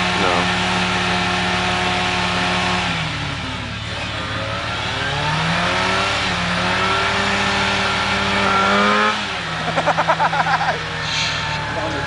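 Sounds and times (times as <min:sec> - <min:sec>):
engine revving hard: 0:00.0 - 0:12.0.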